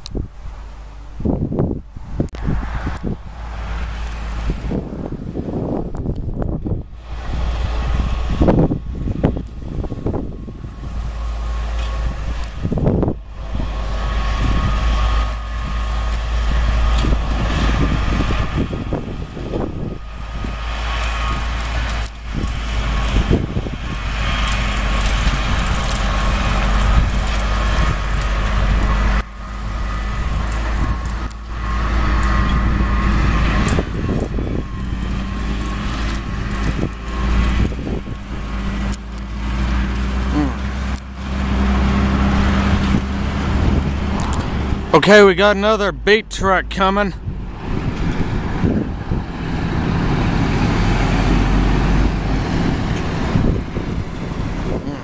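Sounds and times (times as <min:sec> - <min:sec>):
wind rumble on microphone: 0:00.0 - 0:45.0, 0:47.1 - 0:55.0
tractor engine and harvester drone: 0:00.0 - 0:55.0.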